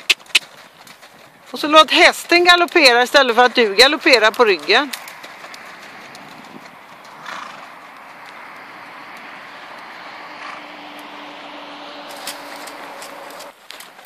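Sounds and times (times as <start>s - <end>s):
horse hoofbeats on sand: 0.0s - 14.0s.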